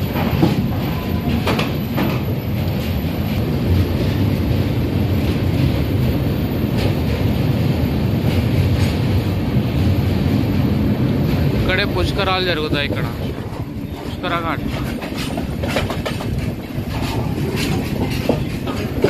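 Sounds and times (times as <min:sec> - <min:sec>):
train rumbling over bridge: 0:00.0 - 0:19.0.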